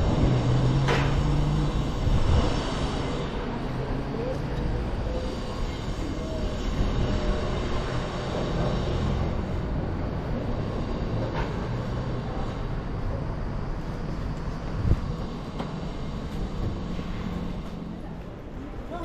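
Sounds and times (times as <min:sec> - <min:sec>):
low rumble of passing vehicles: 0:00.0 - 0:19.0.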